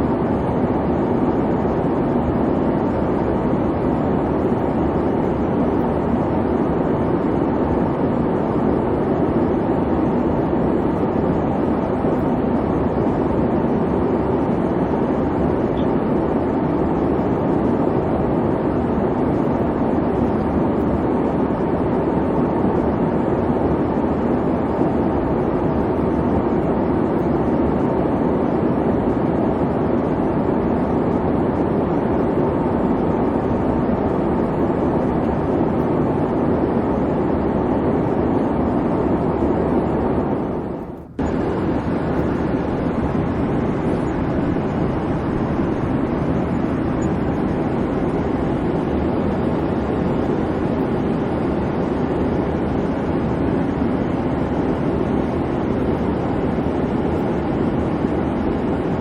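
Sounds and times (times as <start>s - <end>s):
airplane engines rumbling: 0.0s - 59.0s.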